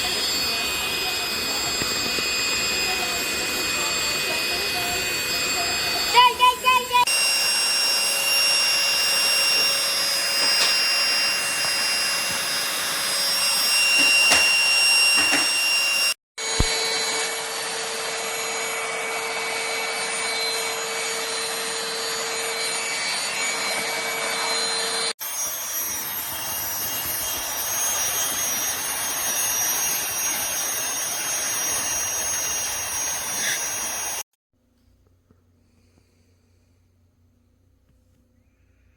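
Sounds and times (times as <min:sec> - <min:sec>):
handheld vacuum cleaner running: 0:00.0 - 0:34.3.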